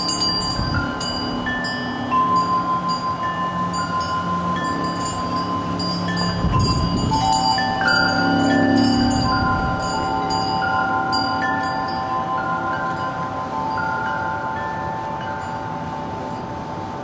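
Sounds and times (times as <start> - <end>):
metal wind chimes ringing: 0.0 - 17.0.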